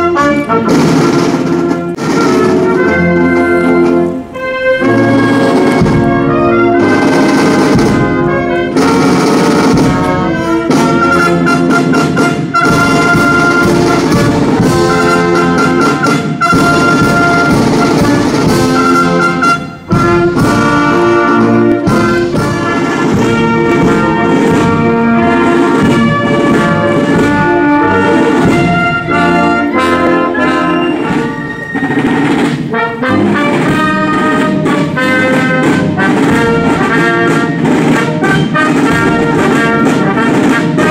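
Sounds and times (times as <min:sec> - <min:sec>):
military brass band playing: 0:00.0 - 0:40.9.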